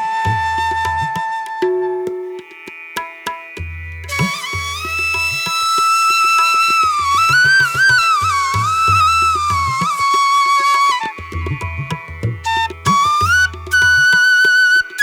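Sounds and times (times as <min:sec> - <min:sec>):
flute melody with sliding ornaments: 0:00.0 - 0:02.5, 0:04.1 - 0:15.0.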